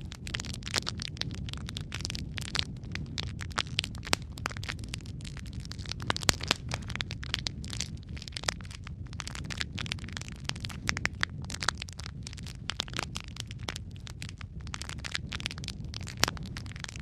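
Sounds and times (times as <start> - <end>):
low rumble of flames: 0.0 - 17.0
wood crackling and popping: 0.0 - 17.0.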